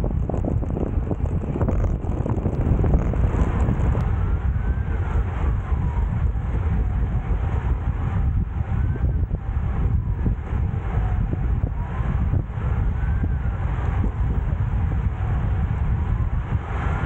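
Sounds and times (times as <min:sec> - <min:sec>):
road and tyre rumble: 0:00.0 - 0:17.0
wind rushing over microphone: 0:00.0 - 0:17.0.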